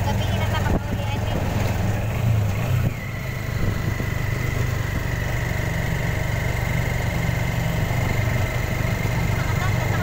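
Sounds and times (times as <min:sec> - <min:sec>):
high engine whine: 0:00.0 - 0:10.0
small vehicle engine running: 0:00.0 - 0:10.0.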